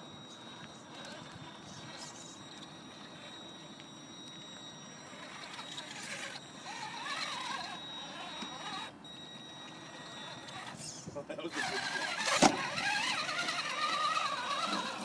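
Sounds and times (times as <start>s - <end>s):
rc car motor whining: 0.0s - 15.0s.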